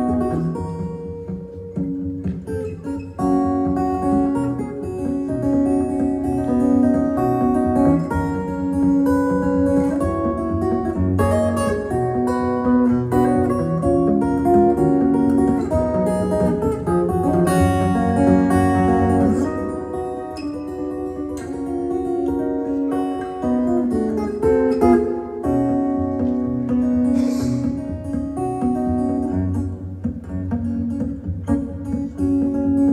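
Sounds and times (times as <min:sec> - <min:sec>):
fingerstyle acoustic guitar: 0:00.0 - 0:32.9.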